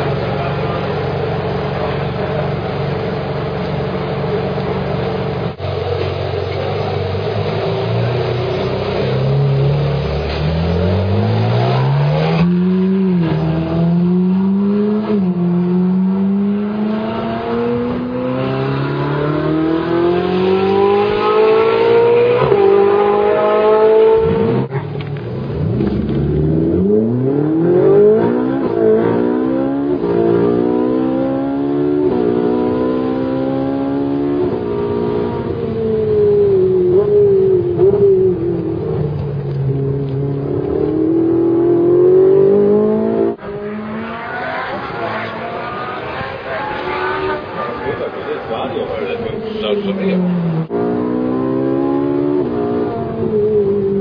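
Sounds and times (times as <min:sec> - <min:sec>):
sports car engine revving: 0:00.0 - 0:54.0.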